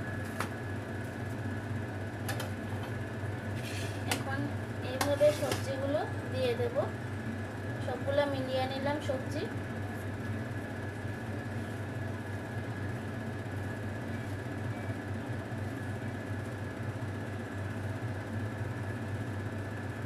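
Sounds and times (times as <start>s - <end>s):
mechanical hum with whine: 0.0s - 20.0s.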